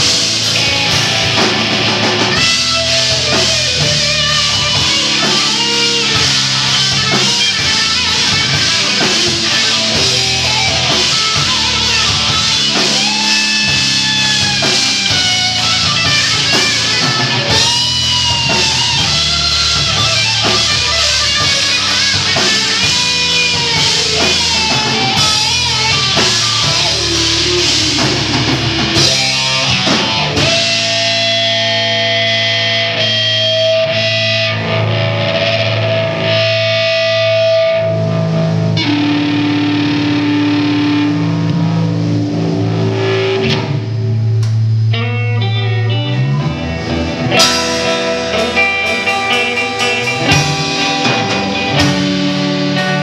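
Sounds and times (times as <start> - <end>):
bass guitar: 0.0 - 53.0
drum kit: 0.0 - 53.0
electric guitar lead lines: 0.0 - 53.0.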